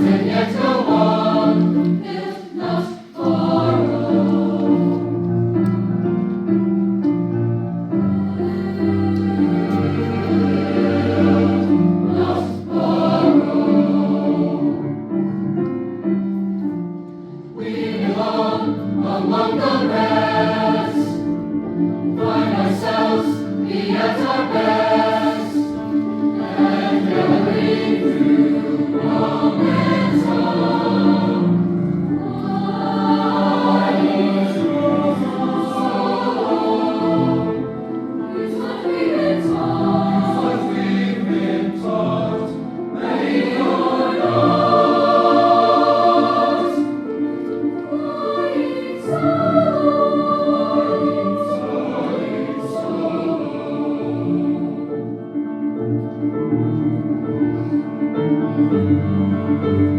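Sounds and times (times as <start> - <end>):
mixed choir singing: 0.0 - 55.8.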